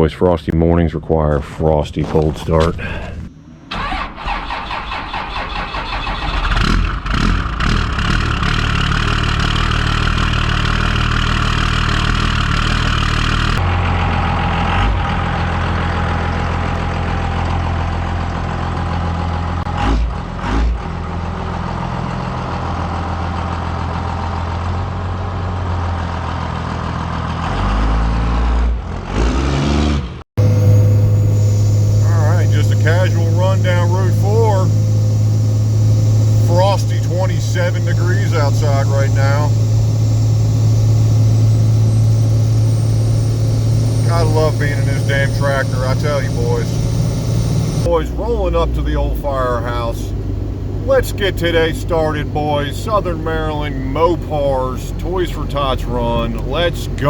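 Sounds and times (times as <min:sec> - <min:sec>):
diesel engine cranking and starting: 0:01.9 - 0:29.4, 0:30.4 - 0:57.0
diesel engine idling: 0:02.0 - 0:19.7, 0:20.8 - 0:27.4, 0:30.4 - 0:57.0.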